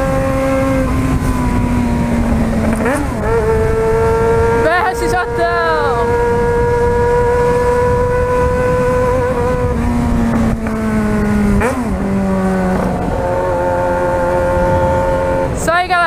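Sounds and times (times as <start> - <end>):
motorcycle engine running: 0.0 - 16.0
wind rumble on microphone: 0.0 - 16.0.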